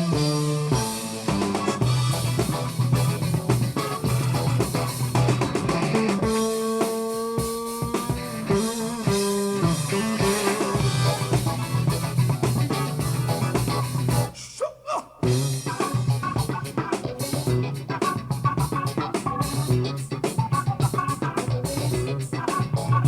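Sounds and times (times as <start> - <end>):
funk rock band music: 0.0 - 14.5, 15.1 - 23.0.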